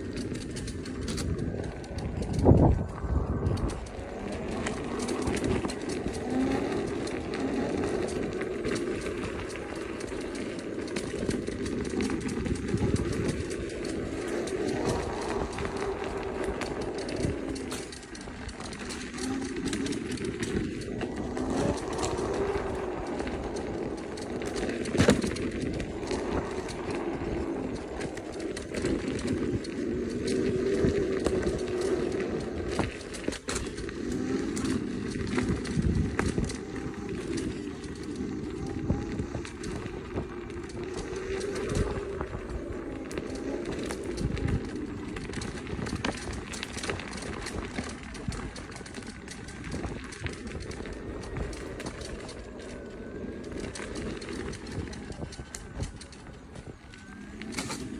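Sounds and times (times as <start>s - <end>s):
wind on microphone: 0.0s - 57.9s.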